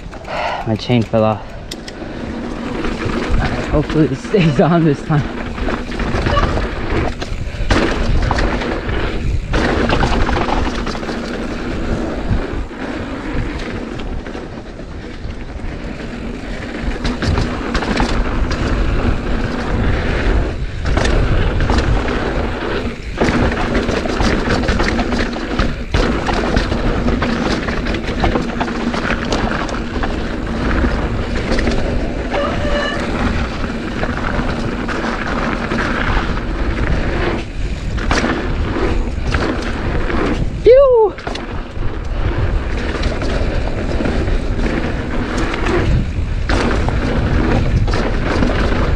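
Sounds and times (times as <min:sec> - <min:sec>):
bike rattling over dirt trail: 0:00.0 - 0:48.9
wind buffeting microphone: 0:00.0 - 0:48.9.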